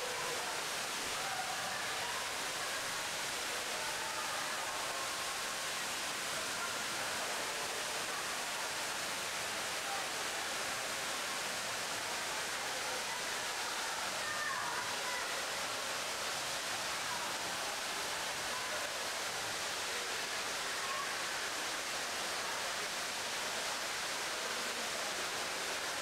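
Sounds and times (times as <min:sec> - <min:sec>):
faint murmuring voices: 0:00.0 - 0:26.0.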